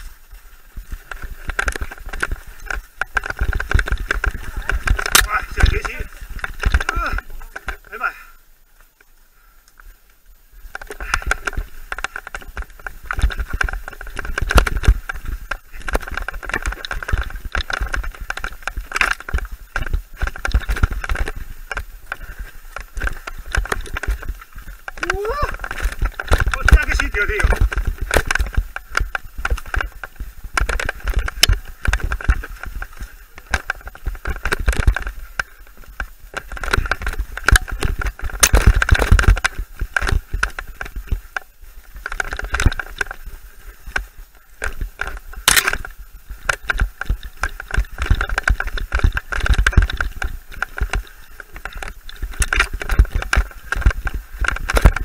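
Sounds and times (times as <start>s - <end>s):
bike rattling over roots: 0.0s - 55.0s
tyres on dirt and stones: 0.0s - 55.0s
wind rumbling on microphone: 0.0s - 55.0s.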